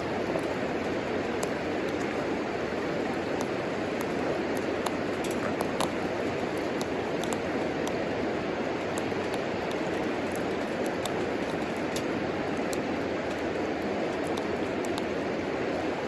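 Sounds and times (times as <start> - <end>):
burning wood crackling: 0.0 - 16.0.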